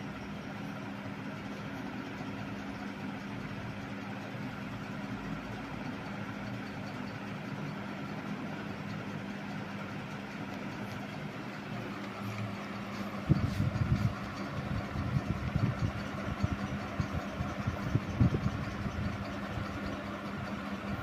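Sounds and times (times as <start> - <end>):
ceiling fan running fast: 0.0 - 21.0.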